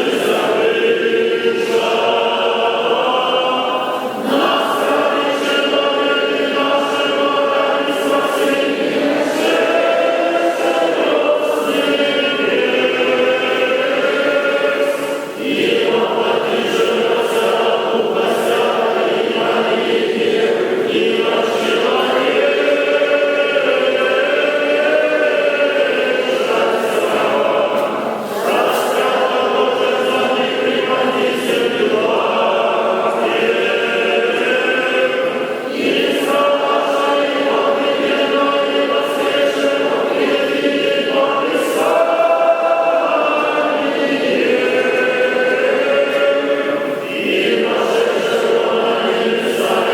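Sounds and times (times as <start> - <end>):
choir singing chant: 0.0 - 49.9.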